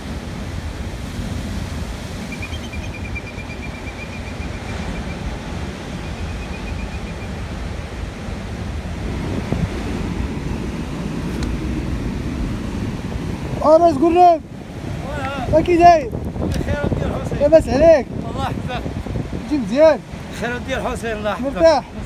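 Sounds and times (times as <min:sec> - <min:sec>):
sea surf rushing: 0:00.0 - 0:22.0
wind buffeting microphone: 0:00.0 - 0:22.0.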